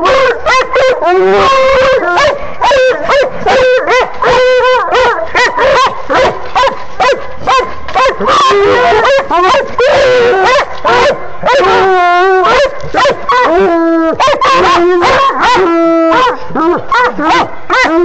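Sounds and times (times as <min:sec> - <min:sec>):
dogs barking and bawling: 0:00.0 - 0:18.0.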